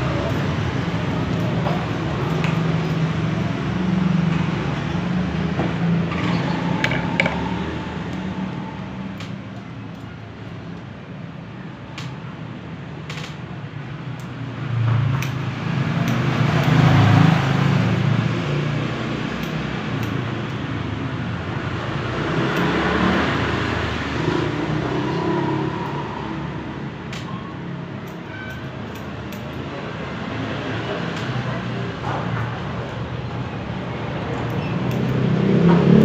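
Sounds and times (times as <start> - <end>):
passing road vehicles rumble: 0.0 - 36.0.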